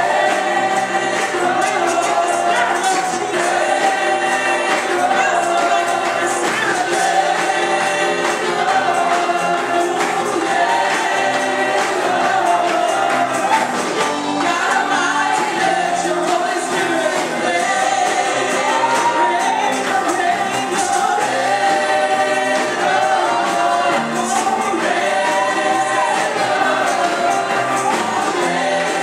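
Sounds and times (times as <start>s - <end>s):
choir singing: 0.0s - 29.0s
sustained instrumental accompaniment: 0.0s - 29.0s.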